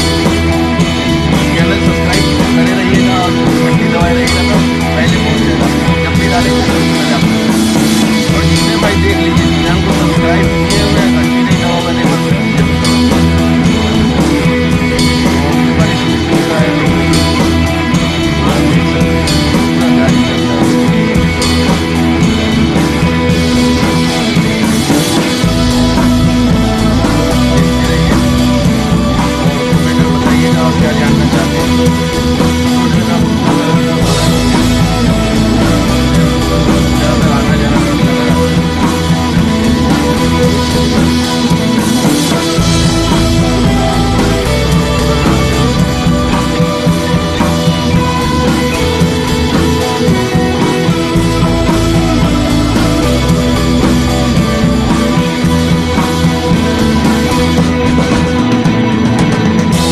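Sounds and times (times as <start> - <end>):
loud rock music: 0.0 - 59.9.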